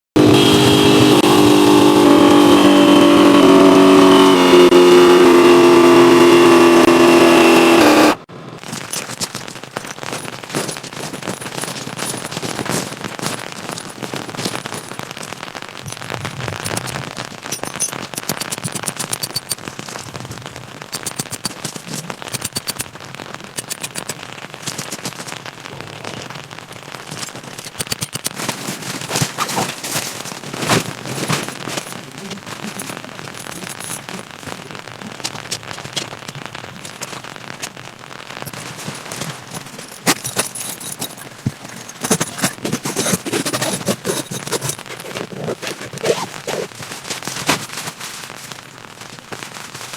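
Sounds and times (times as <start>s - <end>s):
rain falling with crackling taps: 0.2s - 49.9s.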